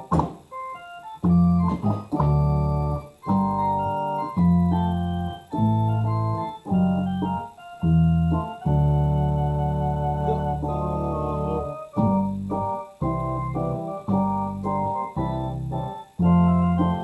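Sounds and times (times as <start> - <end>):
electric organ chords: 0.0 - 17.0.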